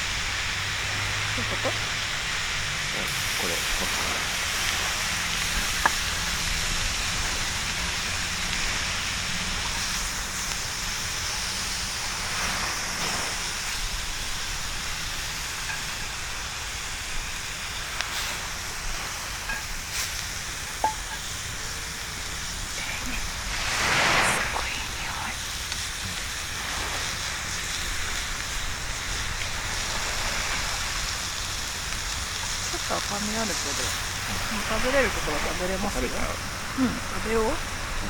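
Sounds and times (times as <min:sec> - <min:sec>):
bonfire hissing: 0:00.0 - 0:38.0
fire crackling pops: 0:00.0 - 0:38.0.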